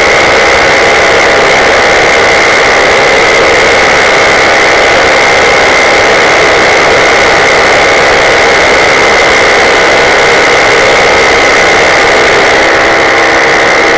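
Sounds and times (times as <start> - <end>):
high-pitched propeller whine: 0.0 - 13.9
paramotor engine drone: 0.0 - 13.9.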